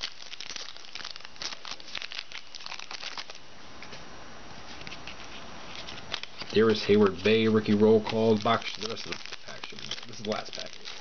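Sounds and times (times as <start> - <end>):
foil wrapper crinkling: 0.0 - 3.4, 4.8 - 11.0.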